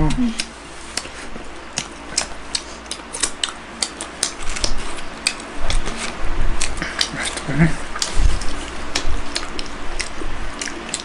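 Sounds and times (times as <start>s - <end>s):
person chewing with wet smacks: 0.0s - 11.0s.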